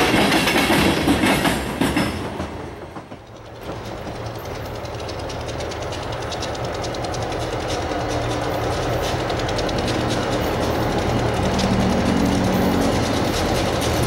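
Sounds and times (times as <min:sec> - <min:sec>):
diesel locomotives droning: 0:00.0 - 0:14.0.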